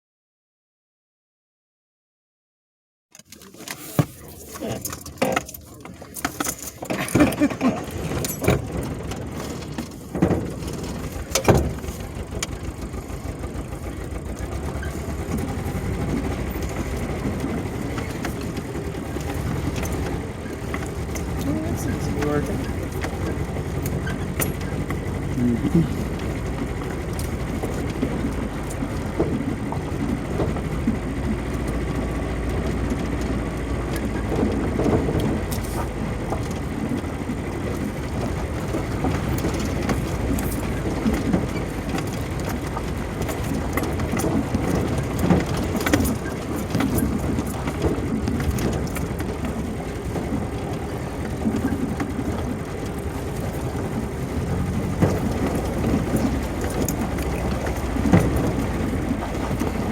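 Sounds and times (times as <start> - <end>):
knocks and rattles: 3.2 - 59.9
vehicle engine and tyre noise: 3.3 - 59.9.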